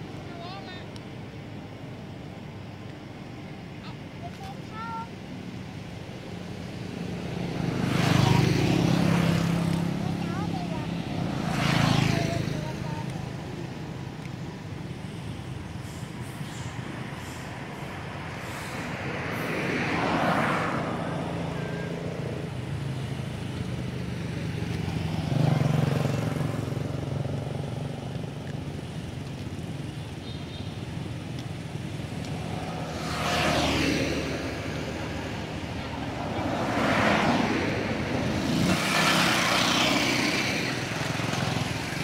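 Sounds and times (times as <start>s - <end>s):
vehicles passing: 0.0s - 42.0s.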